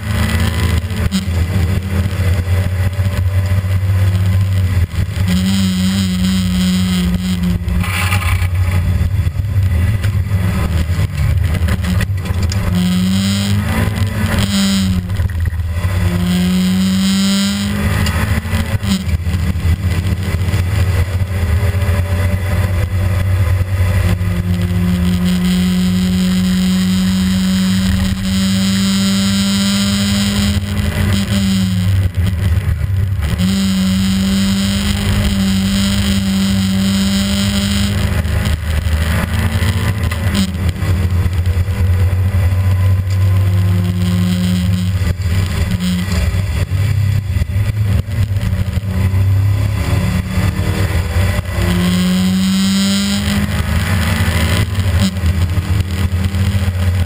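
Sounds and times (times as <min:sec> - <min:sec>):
car engine revving hard: 0:00.0 - 0:57.0
road and tyre noise: 0:00.0 - 0:57.0.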